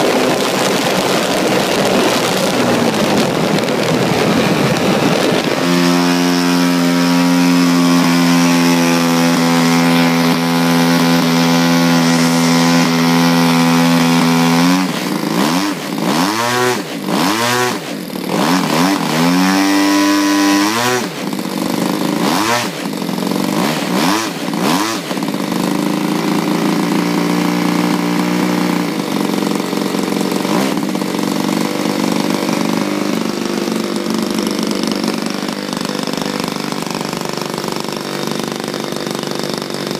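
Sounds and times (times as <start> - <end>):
model airplane engine revving: 0.0 - 39.9.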